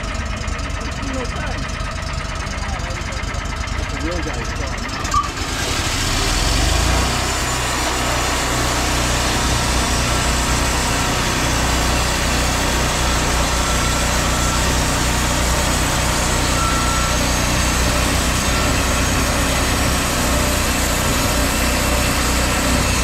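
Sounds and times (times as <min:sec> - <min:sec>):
sawmill engine humming: 0:00.0 - 0:23.0.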